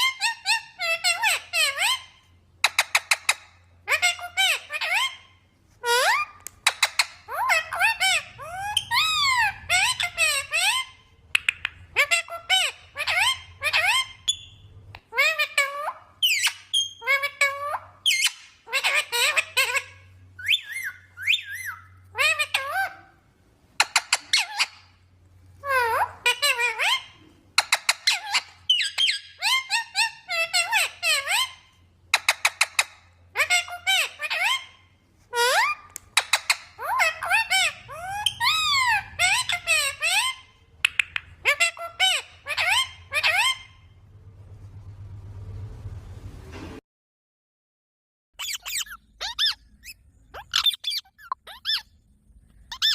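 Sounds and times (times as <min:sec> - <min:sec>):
parrot squeaking and squawking: 0:00.0 - 0:23.2, 0:23.8 - 0:25.0, 0:25.6 - 0:44.0, 0:48.4 - 0:52.0, 0:52.6 - 0:52.9.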